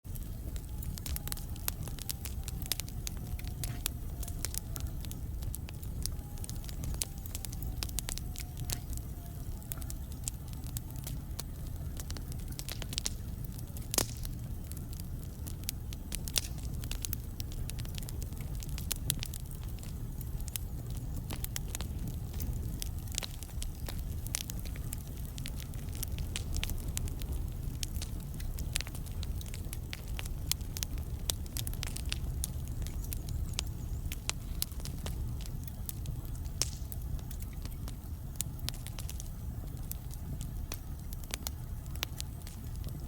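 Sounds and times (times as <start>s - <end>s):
fire low rumble: 0.0s - 43.0s
logs crackling in a fireplace: 0.0s - 43.0s.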